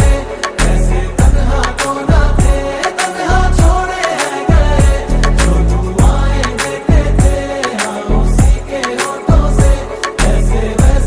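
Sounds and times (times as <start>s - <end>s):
music with deep sliding bass: 0.0s - 11.0s.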